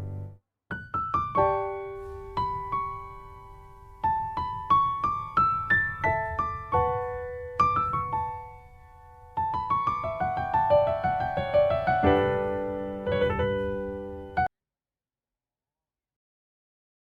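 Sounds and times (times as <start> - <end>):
piano music: 0.0 - 14.5.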